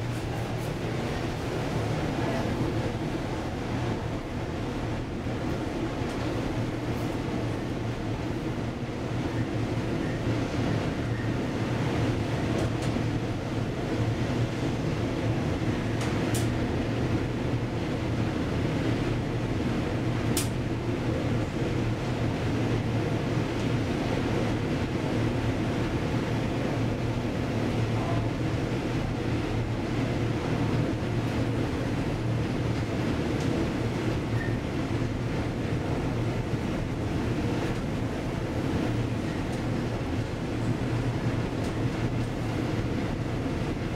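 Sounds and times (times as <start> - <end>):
elevator hum and rumble: 0.0 - 43.9.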